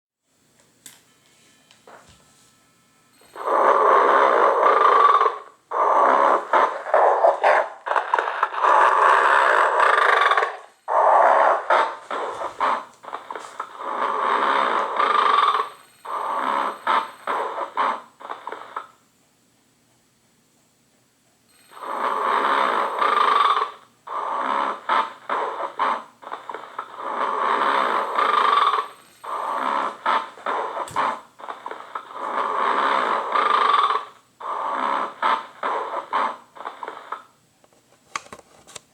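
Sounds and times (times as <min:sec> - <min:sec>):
recorded snoring ringtone: 0:01.2 - 0:19.0, 0:21.5 - 0:37.4.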